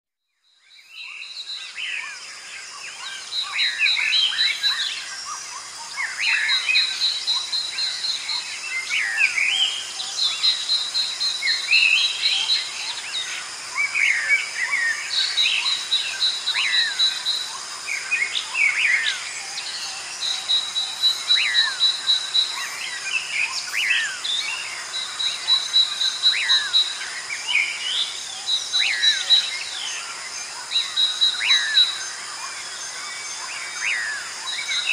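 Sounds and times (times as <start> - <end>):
songbirds chirping: 0.4 - 34.9
insects droning: 0.5 - 34.9.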